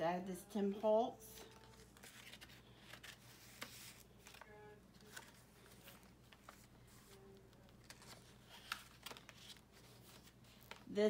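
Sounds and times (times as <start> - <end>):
paper pages rustling: 1.3 - 10.9.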